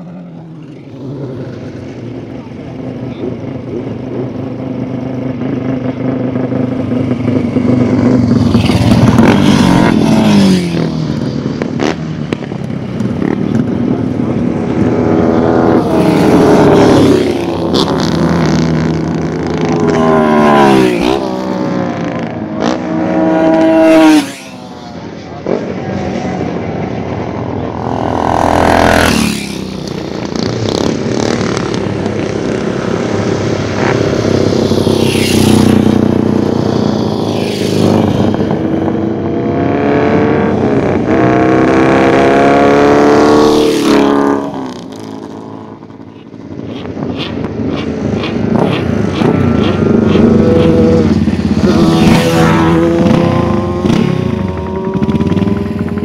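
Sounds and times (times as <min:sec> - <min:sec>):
racing motorcycle engines accelerating: 0:00.0 - 0:56.0.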